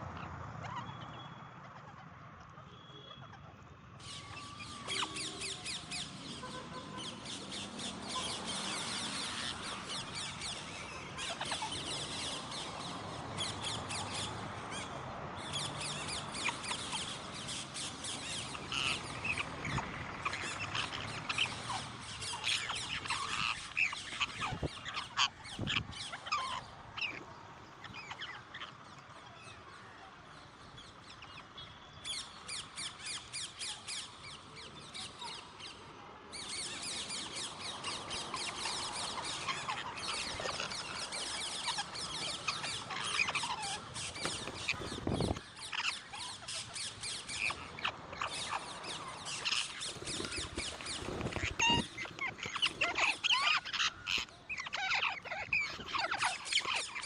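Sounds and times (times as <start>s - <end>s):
parrots squawking: 3.1s - 29.4s, 36.4s - 57.0s.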